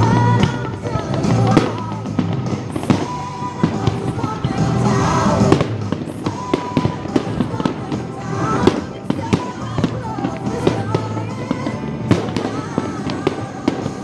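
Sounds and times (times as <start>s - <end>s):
fireworks bangs and crackling: 0.0s - 14.0s
music playing: 0.0s - 14.0s.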